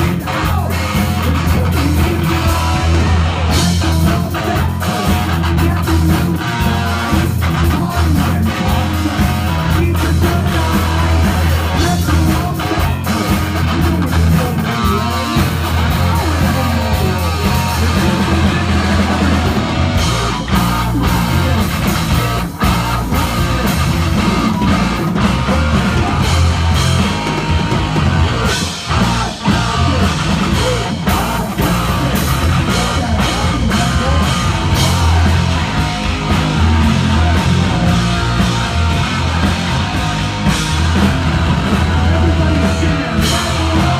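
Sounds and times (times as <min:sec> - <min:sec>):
heavy metal band playing live: 0:00.0 - 0:43.9.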